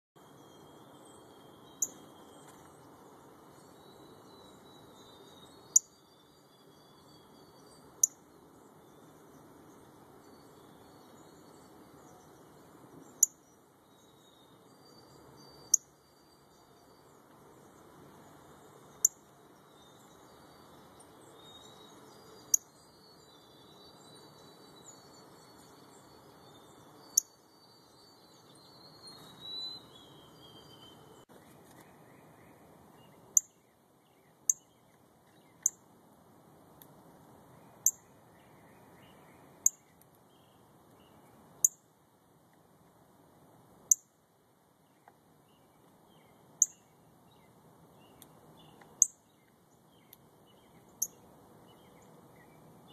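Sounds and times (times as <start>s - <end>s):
faint birdsong: 0.2s - 52.9s.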